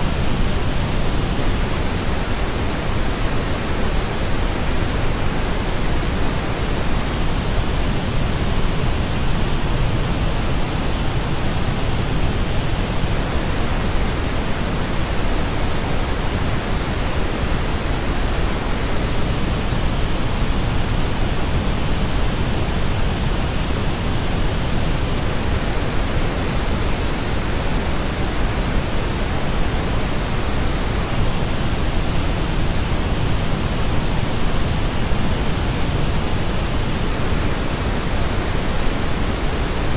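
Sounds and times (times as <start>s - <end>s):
steady pink noise: 0.0s - 39.9s.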